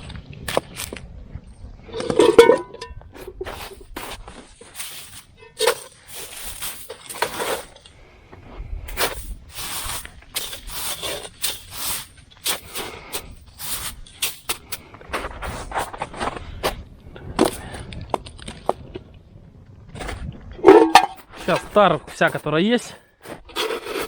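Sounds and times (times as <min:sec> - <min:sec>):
snow crunching and scraping: 0:00.0 - 0:17.9, 0:21.2 - 0:24.0.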